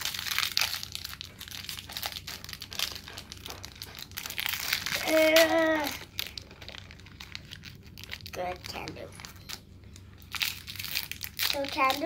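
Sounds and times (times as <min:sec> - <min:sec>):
plastic wrapper crumpling and tearing: 0:00.0 - 0:12.0.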